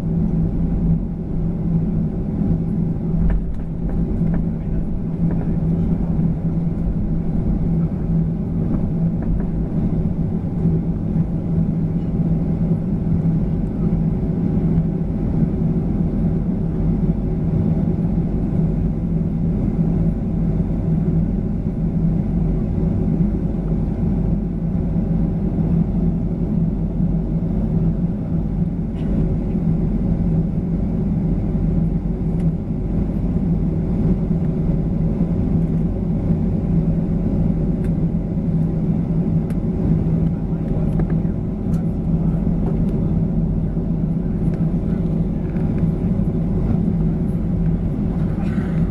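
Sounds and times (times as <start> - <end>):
jet engines rumbling in cabin: 0.0 - 48.9.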